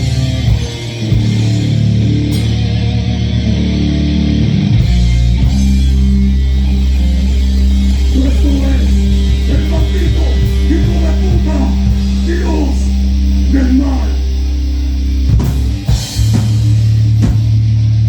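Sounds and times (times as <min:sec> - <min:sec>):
bending melodic guitar line: 0:00.0 - 0:18.0
distorted electric guitars and bass: 0:00.0 - 0:18.0.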